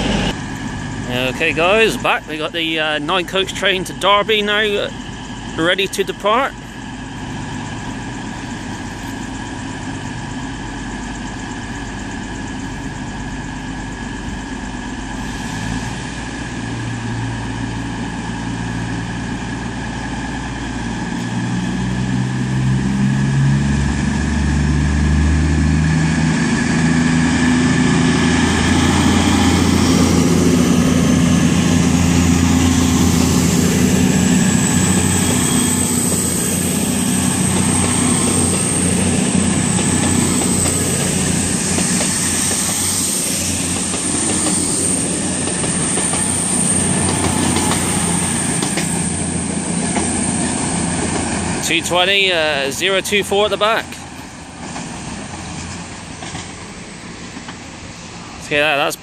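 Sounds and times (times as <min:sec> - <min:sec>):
diesel train engines: 0:00.0 - 0:59.0
rising whine of train: 0:00.0 - 0:59.0.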